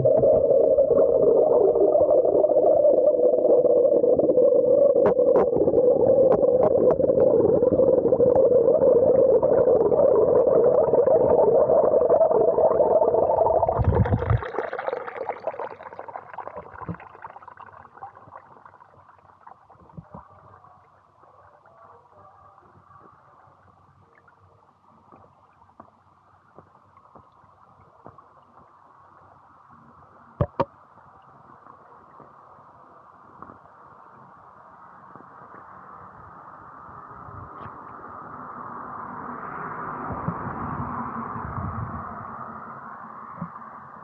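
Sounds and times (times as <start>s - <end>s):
faint water trickle: 0.0s - 36.8s
muffled underwater rushing water: 0.0s - 44.0s.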